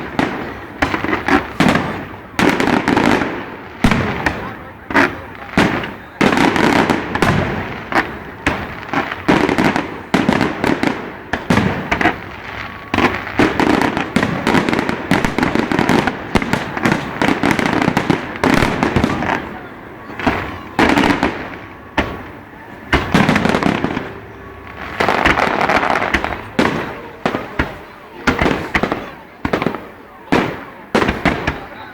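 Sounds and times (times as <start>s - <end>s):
fireworks bursting: 0.0s - 31.9s.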